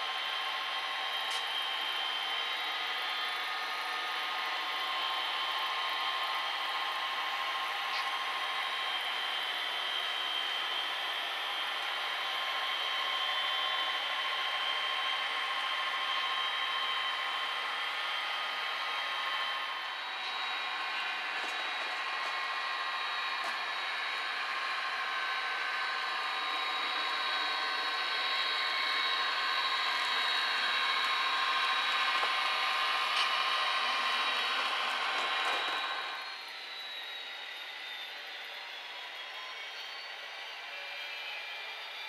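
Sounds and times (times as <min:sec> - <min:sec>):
model locomotives whirring on track: 0:00.0 - 0:42.0
thin steady whines: 0:00.0 - 0:42.0.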